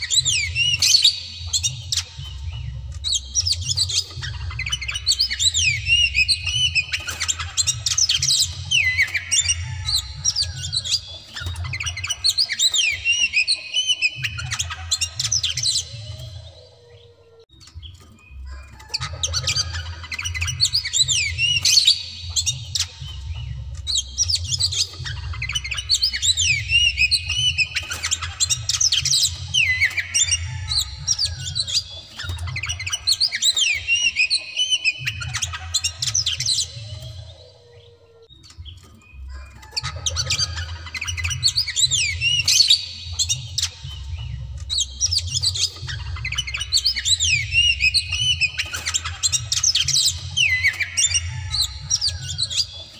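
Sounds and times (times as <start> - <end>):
bird harsh clicking notes: 0.0 - 16.4, 17.5 - 37.2, 38.2 - 52.9
bird singing whistles: 0.0 - 52.9.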